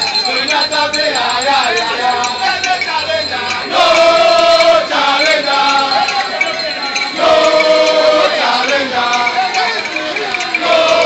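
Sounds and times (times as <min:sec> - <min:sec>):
group of voices chanting: 0:00.1 - 0:11.0.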